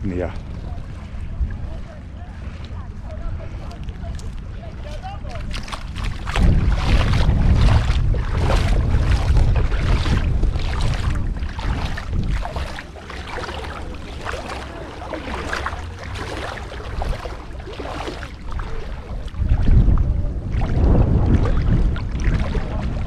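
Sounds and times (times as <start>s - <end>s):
feet splashing in shallow water: 0.0s - 23.0s
wind buffeting microphone: 0.0s - 23.0s.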